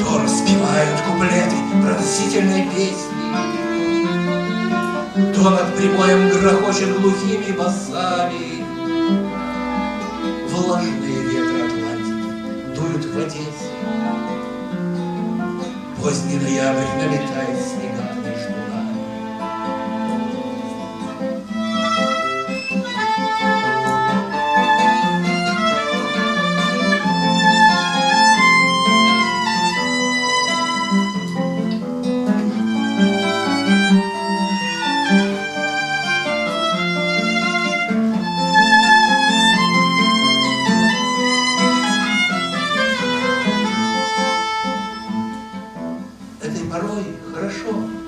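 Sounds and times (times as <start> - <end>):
guitar accompaniment: 0.0 - 48.0
violin melody: 0.0 - 48.0.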